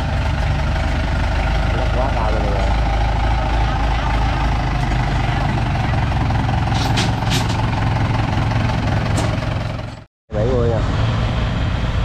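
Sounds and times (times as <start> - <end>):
tracked vehicle engine under load: 0.0 - 12.0.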